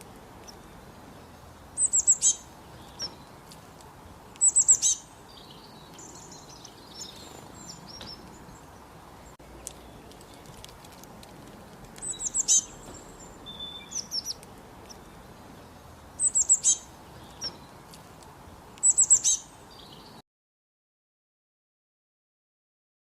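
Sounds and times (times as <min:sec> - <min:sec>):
songbird singing: 0:00.0 - 0:20.2.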